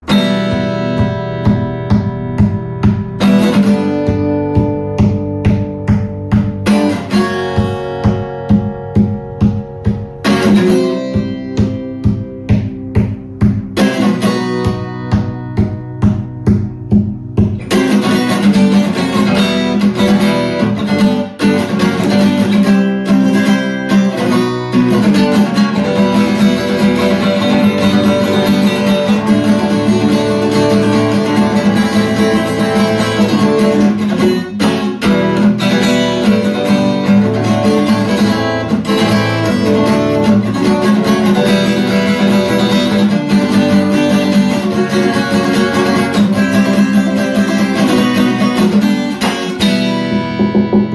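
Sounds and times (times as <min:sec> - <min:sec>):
strummed guitar chords: 0:00.0 - 0:50.9.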